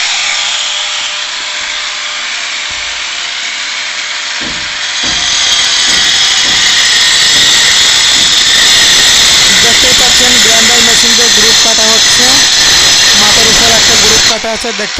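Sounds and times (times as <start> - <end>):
angle grinder cutting masonry: 0.0 - 14.9.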